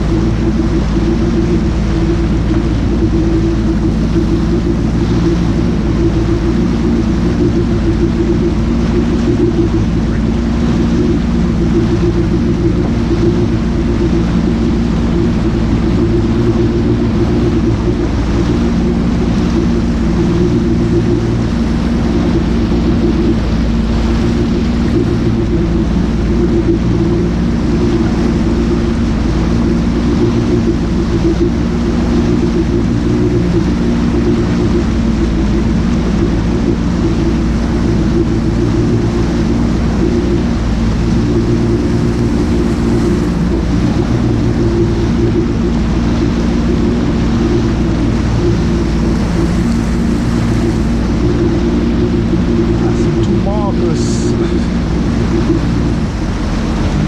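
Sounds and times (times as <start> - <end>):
jet ski engine drone: 0.0 - 57.0
wind and water hiss: 0.0 - 57.0.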